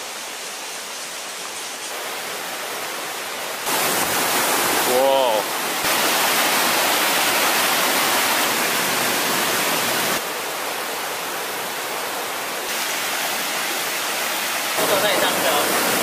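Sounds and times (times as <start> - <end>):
mountain stream and waterfall rushing: 0.0 - 16.0.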